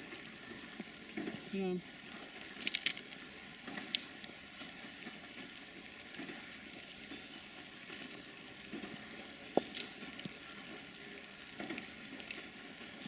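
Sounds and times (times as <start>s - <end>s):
faint crackling outdoor noise: 0.0s - 13.0s.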